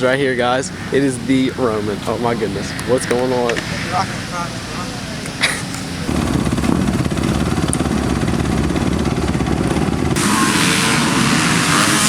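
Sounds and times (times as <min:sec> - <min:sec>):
dirt bike engine running: 0:00.0 - 0:12.0
loud rushing hiss: 0:00.0 - 0:12.0.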